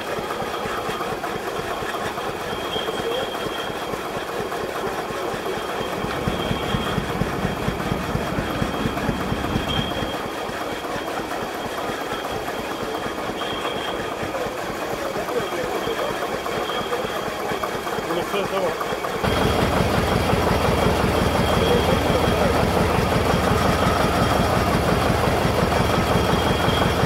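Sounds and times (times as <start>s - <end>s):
mechanical log saw and engine: 0.0s - 27.0s.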